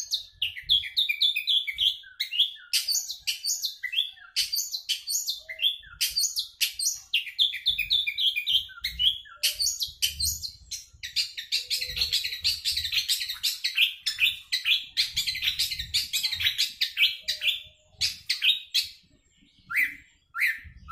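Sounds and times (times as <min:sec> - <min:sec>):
bird singing rapid chattering song: 0:00.0 - 0:20.9.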